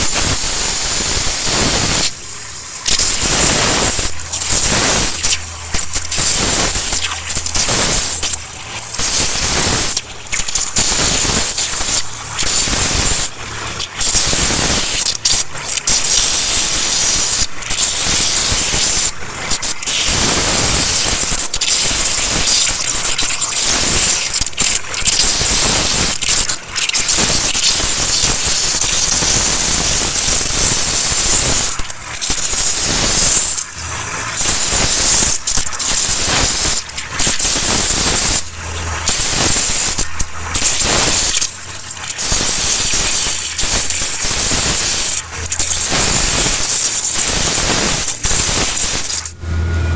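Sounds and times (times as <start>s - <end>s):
waterjet cutter hissing: 0.0s - 49.9s.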